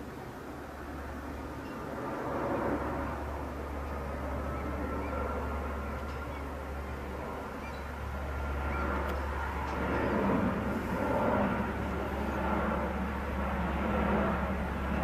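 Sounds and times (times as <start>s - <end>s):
jet airliner flying past: 0.0s - 15.0s.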